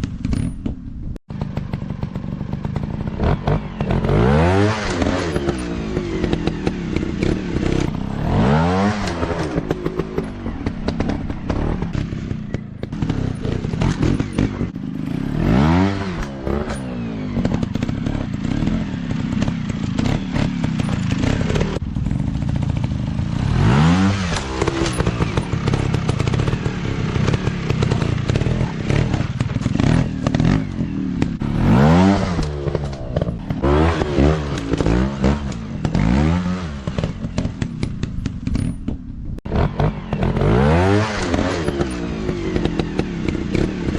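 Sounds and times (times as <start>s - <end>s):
dirt bike engines revving: 1.4s - 43.9s.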